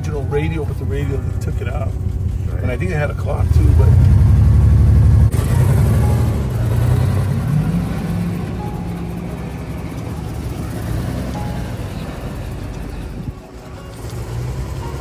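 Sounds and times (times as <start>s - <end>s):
background music: 0.0s - 15.0s
car engine running: 0.0s - 15.0s.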